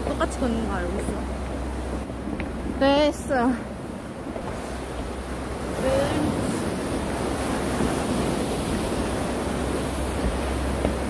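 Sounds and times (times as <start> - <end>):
sea surf washing against rocks: 0.0 - 11.0.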